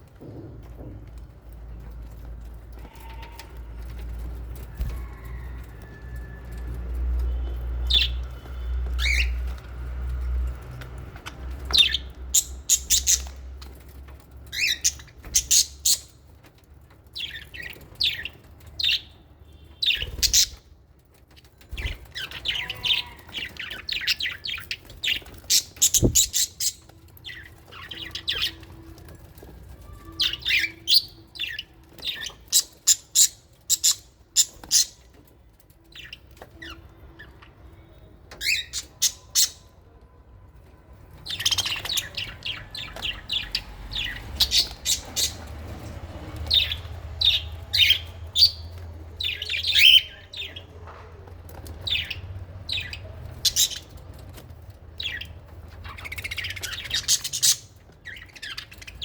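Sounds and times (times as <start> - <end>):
small parrots chirping and squawking: 2.7 - 9.7, 10.8 - 35.3, 38.3 - 39.8, 41.2 - 50.7, 51.5 - 59.0.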